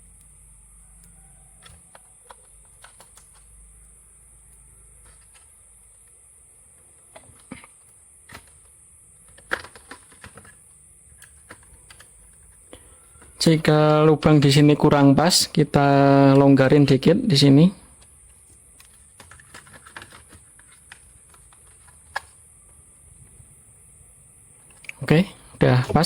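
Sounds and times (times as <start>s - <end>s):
faint steady high hiss: 0.0s - 26.0s.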